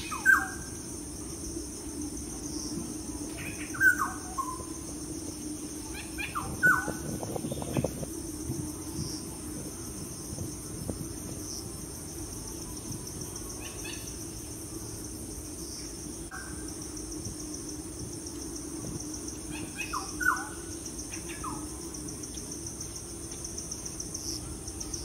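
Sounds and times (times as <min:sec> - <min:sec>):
low hum: 0:00.0 - 0:25.0
steady high hiss: 0:00.0 - 0:25.0.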